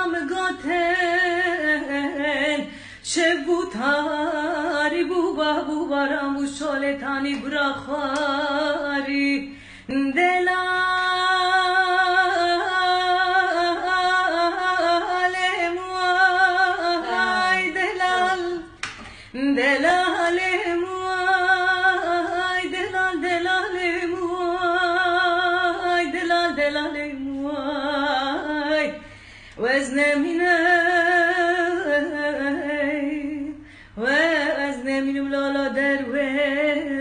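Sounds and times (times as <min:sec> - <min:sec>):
woman singing unaccompanied: 0:00.0 - 0:29.0, 0:29.6 - 0:37.0.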